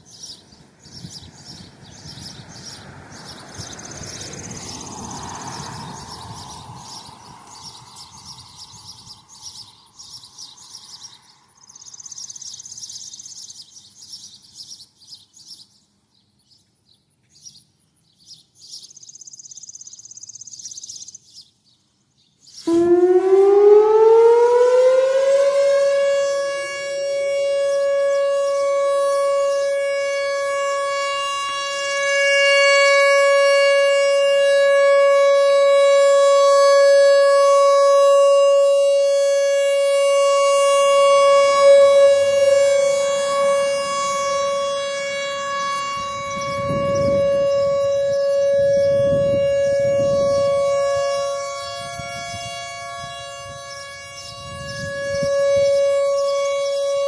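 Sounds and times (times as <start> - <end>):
electronic warning siren: 1.0 - 13.1, 22.6 - 57.0.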